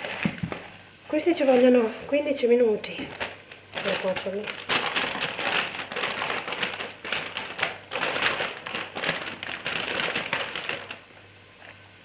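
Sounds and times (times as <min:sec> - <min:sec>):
plastic packaging crinkling: 0:00.0 - 0:02.0, 0:02.6 - 0:11.9.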